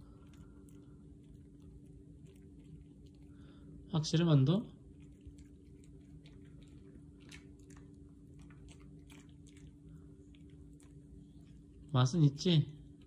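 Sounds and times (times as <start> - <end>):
dog chewing a treat: 0.0 - 3.5, 4.8 - 11.9.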